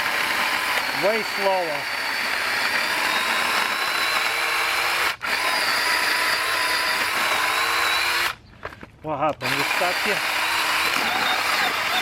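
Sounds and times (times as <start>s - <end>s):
battery chainsaw cutting wood: 0.0s - 8.4s, 9.4s - 12.0s.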